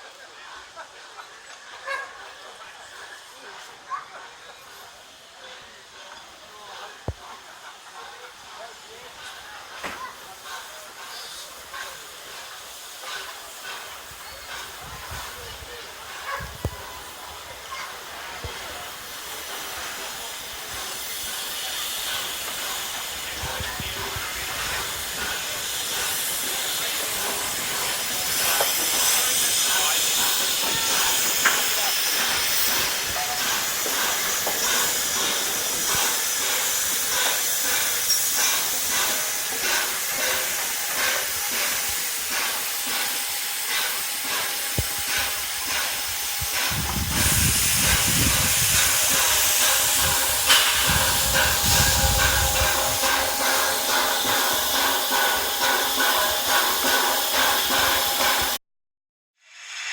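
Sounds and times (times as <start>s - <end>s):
steam locomotive hissing: 0.0s - 58.6s, 59.4s - 59.9s.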